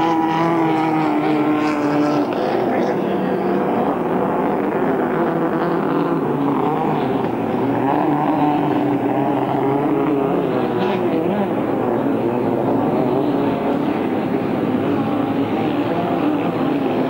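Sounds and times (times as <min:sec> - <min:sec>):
racing boat engine running hard: 0:00.0 - 0:17.0.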